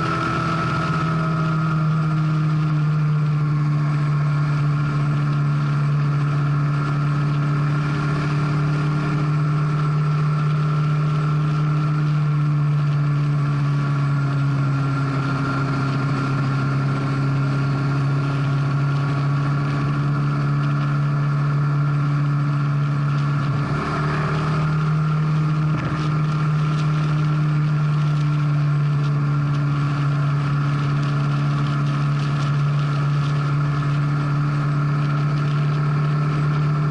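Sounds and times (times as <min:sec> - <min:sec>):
motorcycle engine cruising: 0:00.0 - 0:36.9.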